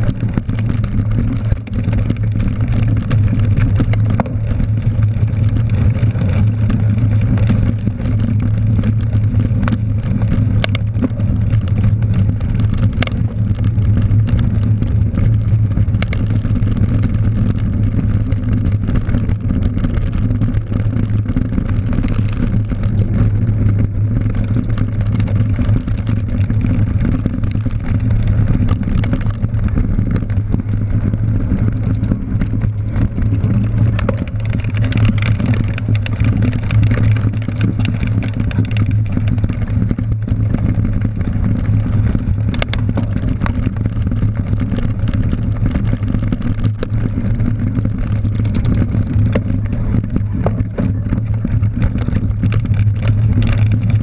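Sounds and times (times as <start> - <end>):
rushing wind noise and rumble: 0.0 - 54.0
sharp clicks and knocks: 0.0 - 54.0.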